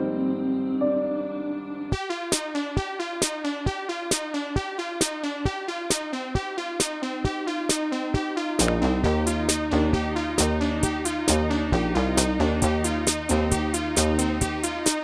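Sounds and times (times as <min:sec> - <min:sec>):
synth melody: 0:00.0 - 0:15.0
drum machine beat: 0:02.0 - 0:15.0.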